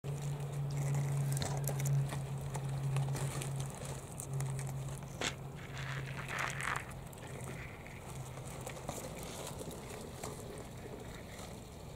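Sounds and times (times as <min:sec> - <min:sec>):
turtle claws clicking on gravel: 0:00.1 - 0:11.7
steady low hum: 0:00.1 - 0:11.9.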